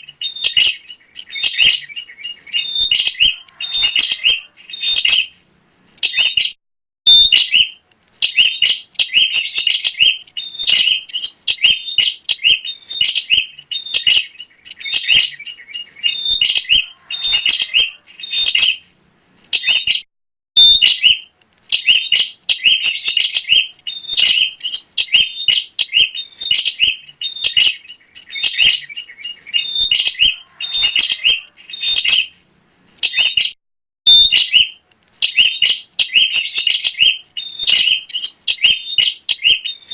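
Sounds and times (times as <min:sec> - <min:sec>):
bird singing chattering notes: 0:00.0 - 0:05.3, 0:05.9 - 0:18.8, 0:19.4 - 0:20.0, 0:20.6 - 0:32.3, 0:32.9 - 0:39.9.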